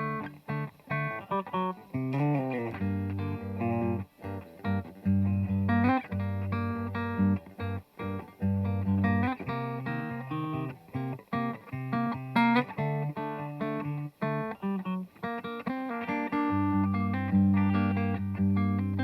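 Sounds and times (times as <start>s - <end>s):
clean electric guitar playing: 0.0s - 19.0s.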